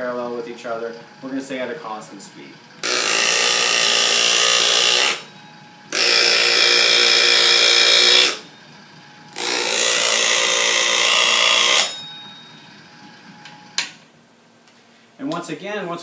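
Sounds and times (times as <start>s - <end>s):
electric motor whine: 0.9s - 13.8s.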